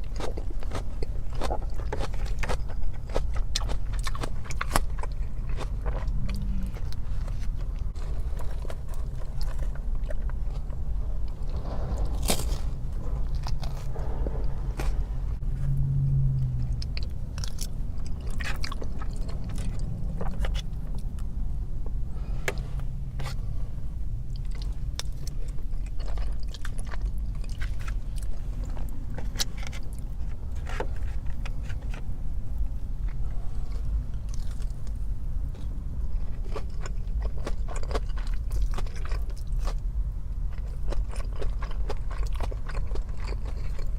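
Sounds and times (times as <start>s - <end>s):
biting and chewing food: 0.0s - 15.4s, 16.3s - 23.5s, 24.2s - 43.9s
steady low hum: 0.0s - 43.9s.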